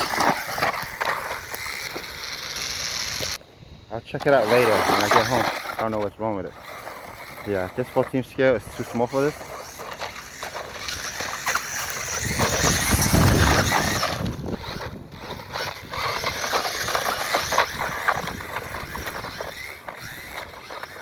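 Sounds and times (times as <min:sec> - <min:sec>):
tyres scrabbling over dirt: 0:00.0 - 0:03.4, 0:04.0 - 0:21.0
high electric motor whine: 0:00.0 - 0:21.0.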